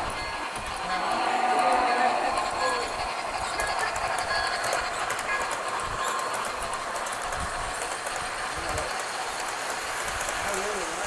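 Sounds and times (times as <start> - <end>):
model train running: 0.0 - 11.0
wheels clicking over rails: 0.0 - 11.0.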